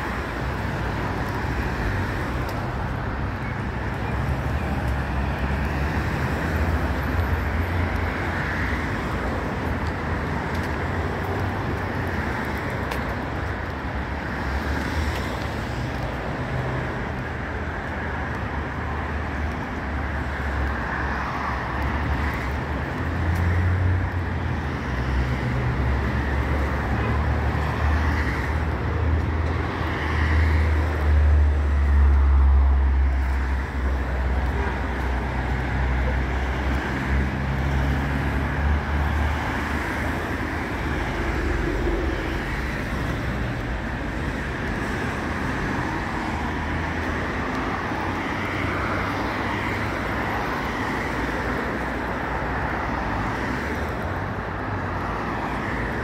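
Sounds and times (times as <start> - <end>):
hum of cars: 0.0 - 56.0
traffic rumble: 0.0 - 56.0.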